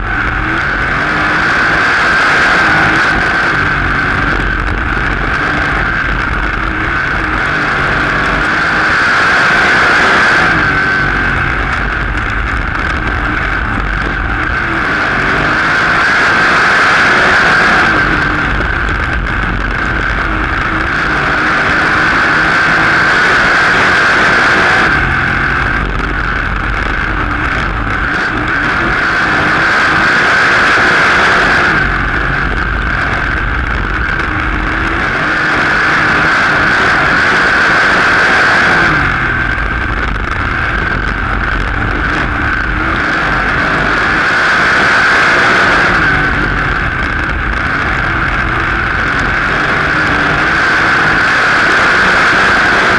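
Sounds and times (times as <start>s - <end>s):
race car engine at speed: 0.0s - 52.9s.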